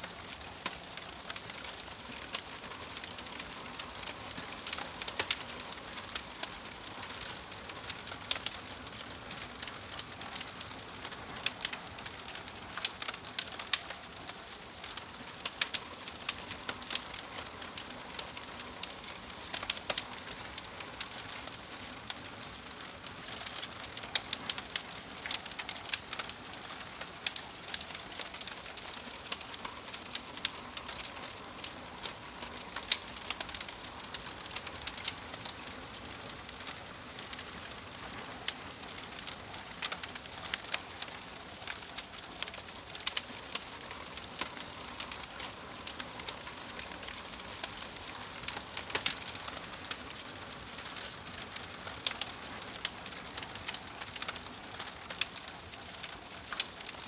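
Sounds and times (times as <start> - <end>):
fire popping and snapping: 0.1 - 57.0
hiss of burning: 0.1 - 57.0.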